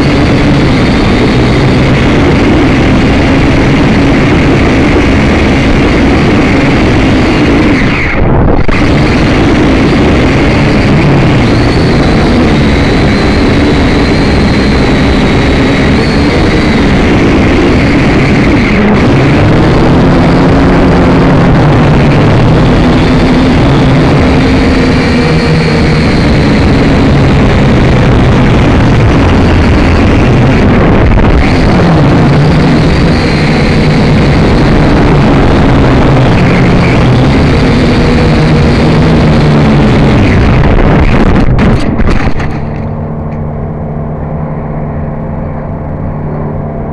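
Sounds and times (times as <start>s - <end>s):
wind rushing on microphone: 0.0s - 42.9s
drone motors whining: 0.0s - 46.9s.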